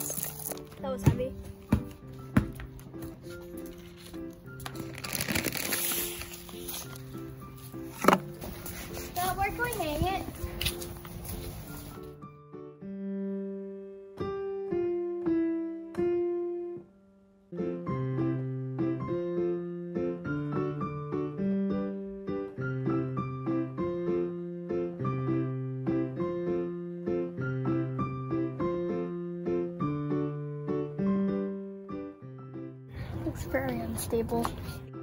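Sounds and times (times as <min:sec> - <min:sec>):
piano music: 0:00.0 - 0:35.0.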